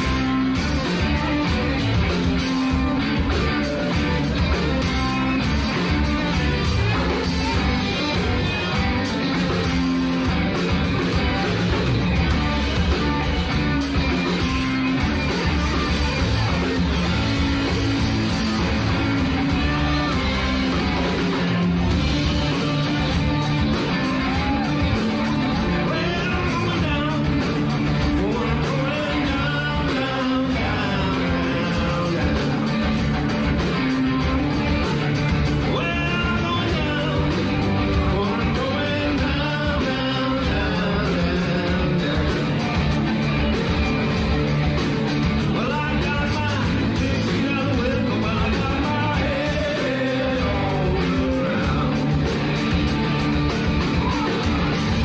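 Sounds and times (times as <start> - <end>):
driving drum beat: 0.0 - 55.0
rock band playing: 0.0 - 55.0.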